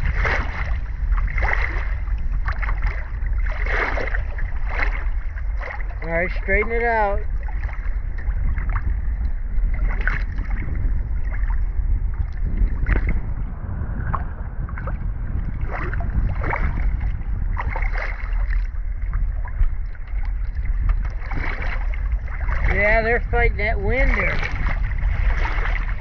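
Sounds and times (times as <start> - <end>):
water splashing and slapping: 0.0 - 26.0
wind buffeting microphone: 0.0 - 26.0.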